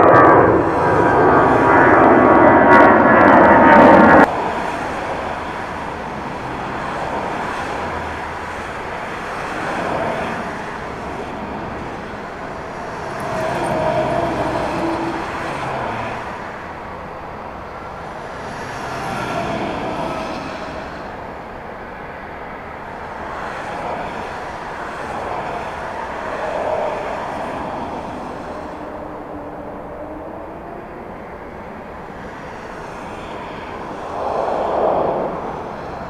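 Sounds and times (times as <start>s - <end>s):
jet airliner climbing: 0.0s - 36.0s
turboprop aircraft drone: 0.0s - 36.0s.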